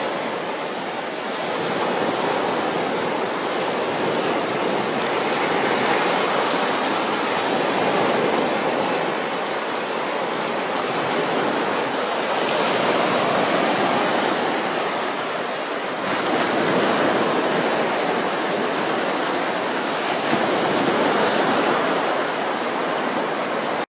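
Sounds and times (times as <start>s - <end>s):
small waves breaking on beach: 0.0s - 23.8s.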